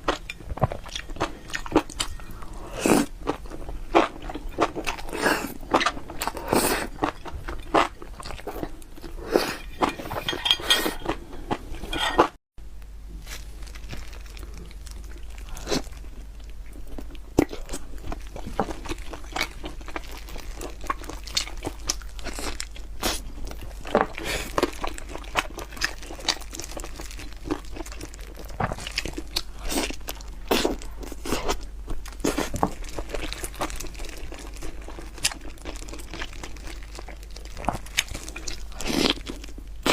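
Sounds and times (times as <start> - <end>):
person chewing crunchy food: 0.0 - 12.4, 13.1 - 39.9.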